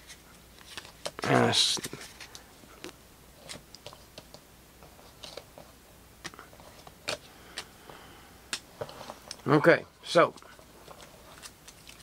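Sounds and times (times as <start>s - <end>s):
trading cards being handled: 0.0s - 12.0s.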